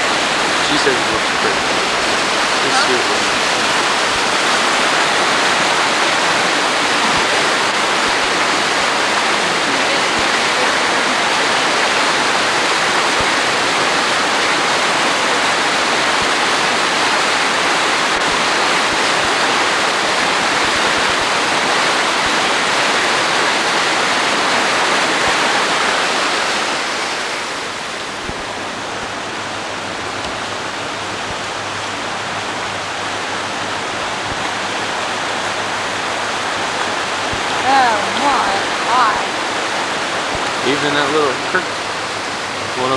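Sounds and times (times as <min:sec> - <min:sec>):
creek pouring over waterfall: 0:00.0 - 0:42.9.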